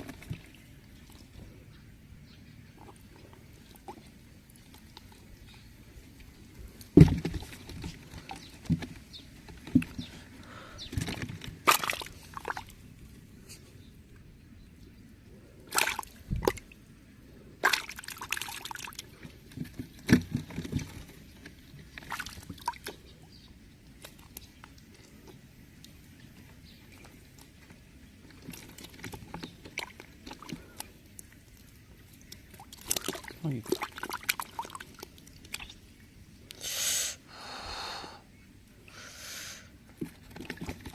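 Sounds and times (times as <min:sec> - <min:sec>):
water sloshing and splashing: 0:00.0 - 0:13.5, 0:15.4 - 0:36.5, 0:39.8 - 0:40.9.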